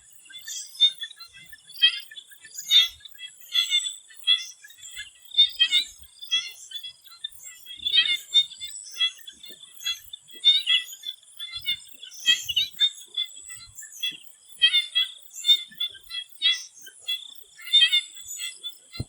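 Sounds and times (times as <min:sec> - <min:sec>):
frogs calling: 0:00.0 - 0:19.0.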